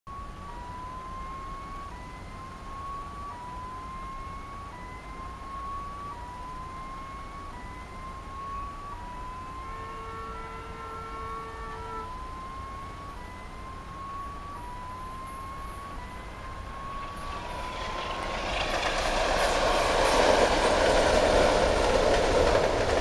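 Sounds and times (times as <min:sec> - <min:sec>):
level crossing warning signal: 0:00.1 - 0:23.0
steady electronic tone: 0:00.1 - 0:23.0.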